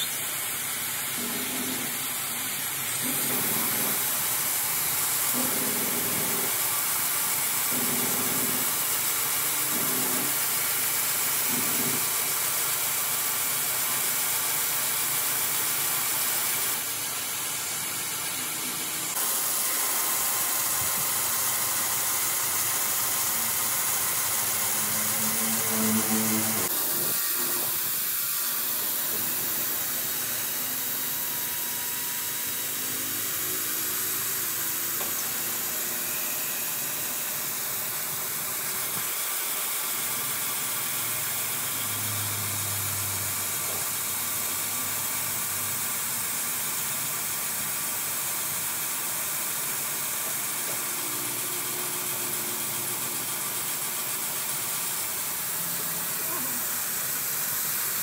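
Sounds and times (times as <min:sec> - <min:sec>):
grinder hissing: 0:00.0 - 0:58.0
lathe running: 0:00.0 - 0:58.0.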